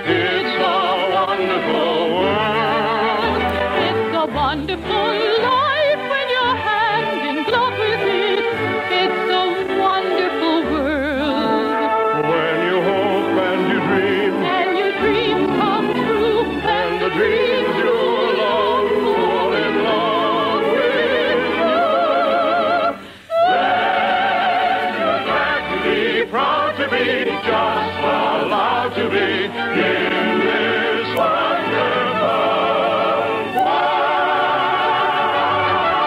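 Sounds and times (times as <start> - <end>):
choir singing: 0.0 - 36.0
operatic singing: 0.0 - 36.0
orchestra playing: 0.0 - 36.0.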